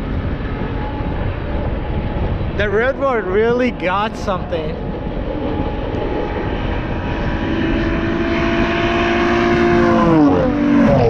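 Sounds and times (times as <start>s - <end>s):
racing car engine passing by: 0.0s - 11.0s.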